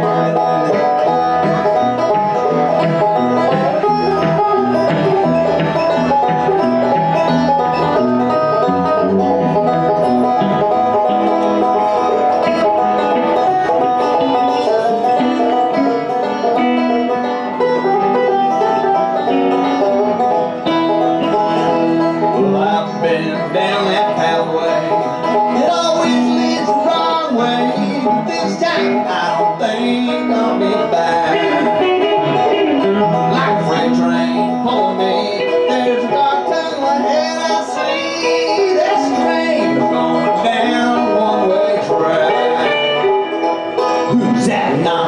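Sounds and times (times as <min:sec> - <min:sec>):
banjo rolls: 0:00.0 - 0:45.0
electric guitar: 0:00.0 - 0:45.0.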